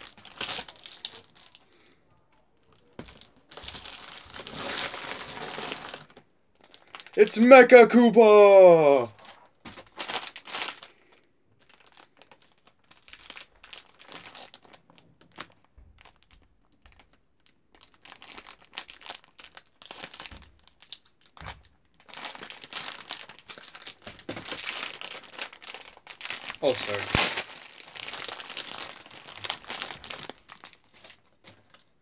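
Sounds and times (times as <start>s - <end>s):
plastic bag crinkling: 0.0s - 32.0s.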